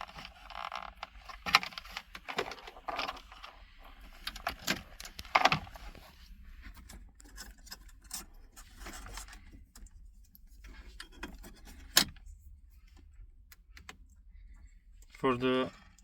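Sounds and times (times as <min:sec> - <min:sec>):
rustle of wiring being handled: 0:00.0 - 0:13.2.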